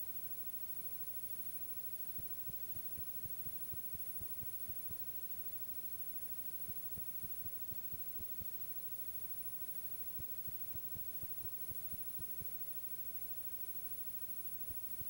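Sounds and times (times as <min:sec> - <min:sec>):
tape hiss and hum: 0:00.0 - 0:15.0
thin high-pitched whine: 0:00.0 - 0:15.0.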